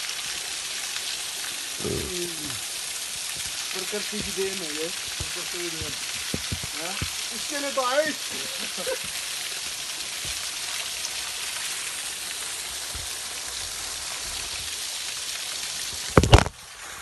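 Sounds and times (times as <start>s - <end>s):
falling water hissing: 0.0s - 17.0s.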